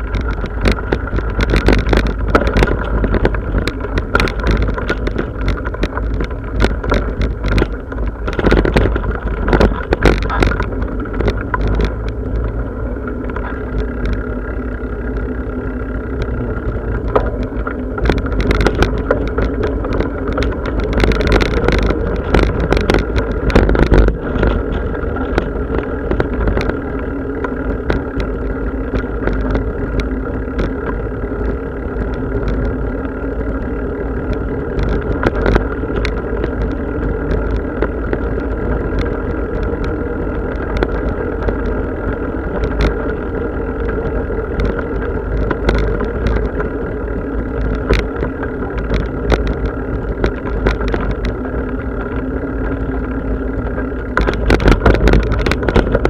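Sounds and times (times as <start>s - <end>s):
bicycle rattles and clicks: 0.0s - 56.0s
bicycle rolling rumble: 0.0s - 56.0s.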